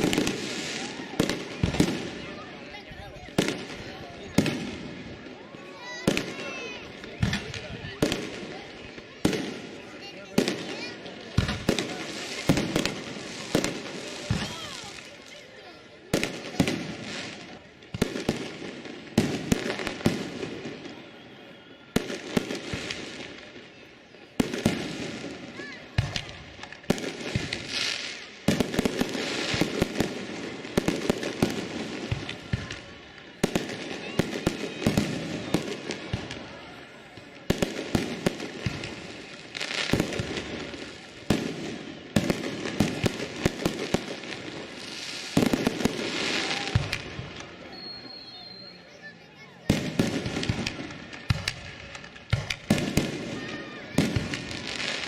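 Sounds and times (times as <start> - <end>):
fireworks bangs: 0.0 - 48.6, 49.4 - 55.0.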